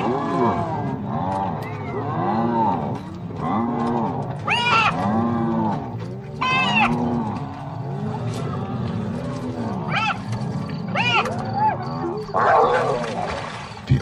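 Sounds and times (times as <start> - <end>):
hyenas moaning calls: 0.0 - 13.3.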